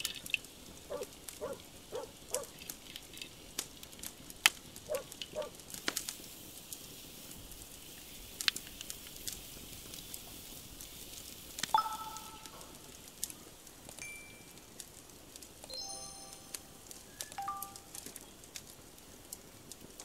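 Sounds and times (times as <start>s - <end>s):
charcoal fire crackling: 0.0s - 20.0s.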